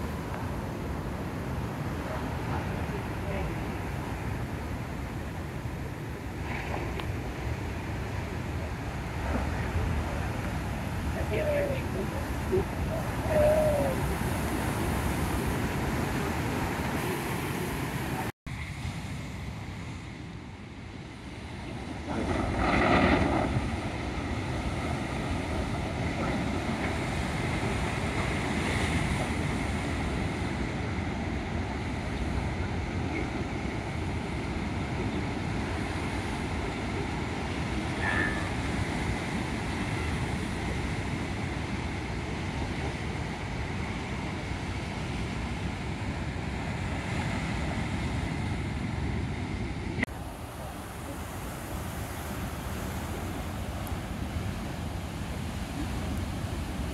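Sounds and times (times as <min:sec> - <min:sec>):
wind buffeting microphone: 0:00.0 - 0:18.3, 0:19.1 - 0:56.9
big waves breaking: 0:00.0 - 0:56.9.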